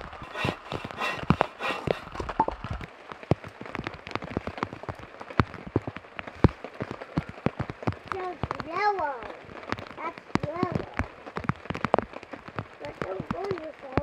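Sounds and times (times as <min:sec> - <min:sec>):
heavy raindrops tapping: 0:00.0 - 0:14.0
rain falling: 0:00.0 - 0:14.0.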